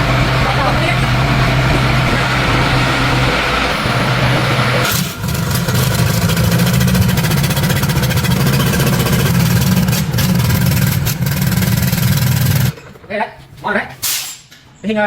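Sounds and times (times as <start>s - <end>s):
diesel engine running: 0.0s - 14.2s.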